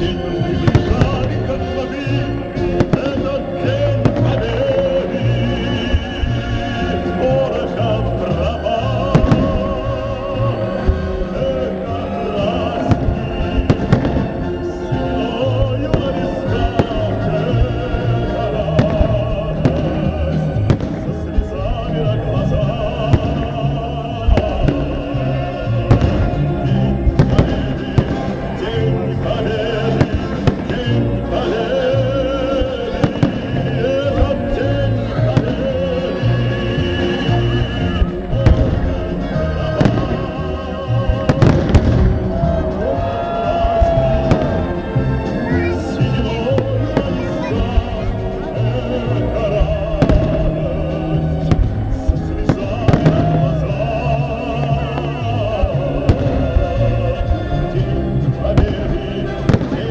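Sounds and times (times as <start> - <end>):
fireworks bangs: 0.0 - 59.9
music with sung melody: 0.0 - 59.9.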